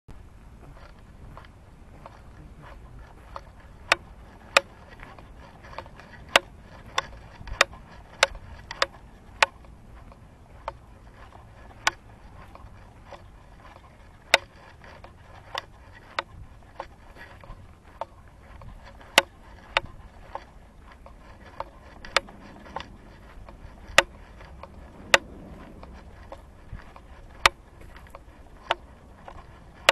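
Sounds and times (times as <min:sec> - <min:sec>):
low outdoor rumble: 0:00.1 - 0:29.9.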